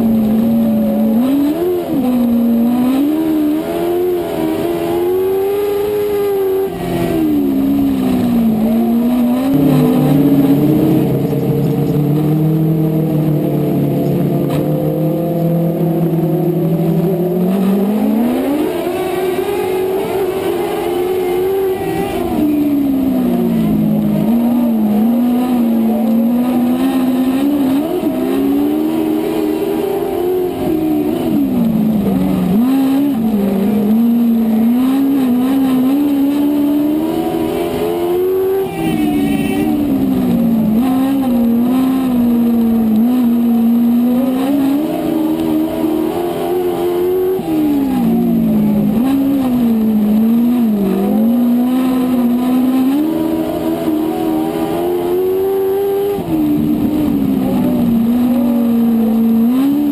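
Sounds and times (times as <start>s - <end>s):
race car engine revving: 0.0s - 59.9s
surrounding race car engines: 0.0s - 59.9s.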